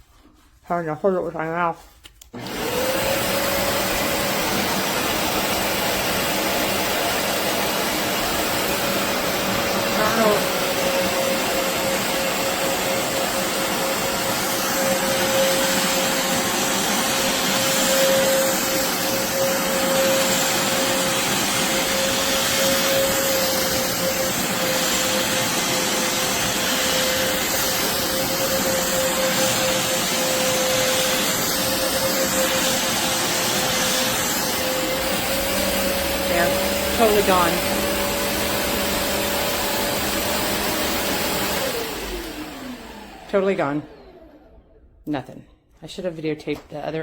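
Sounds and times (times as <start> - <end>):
carpet shampooer suction and motor whine: 2.3 - 44.8.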